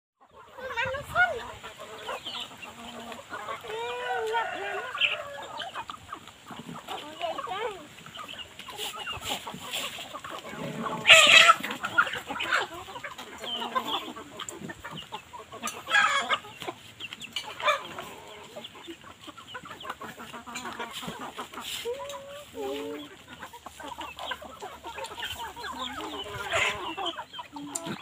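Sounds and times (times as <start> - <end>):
chickens clucking: 0.2 - 28.0.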